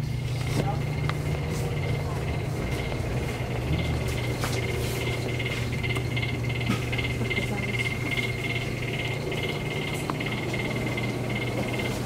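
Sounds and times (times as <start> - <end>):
refrigeration units humming: 0.0 - 12.0
high pulsing chirping: 0.8 - 12.0.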